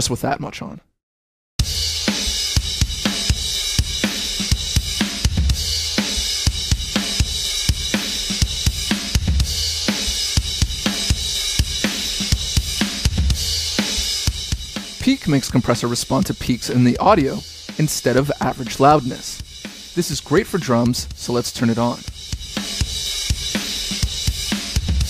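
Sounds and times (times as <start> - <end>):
drum kit beat: 1.6 - 25.0.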